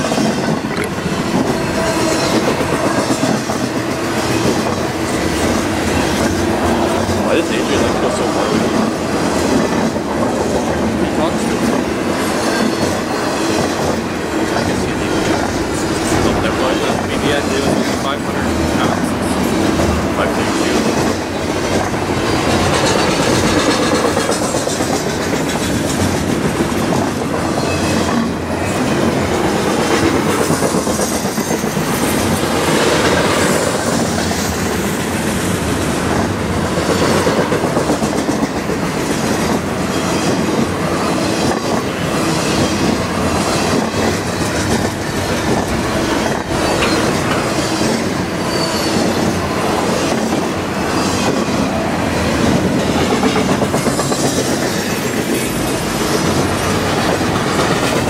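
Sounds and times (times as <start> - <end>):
steady train rumble: 0.0 - 58.0
train wheels clicking over rail joints: 0.0 - 58.0.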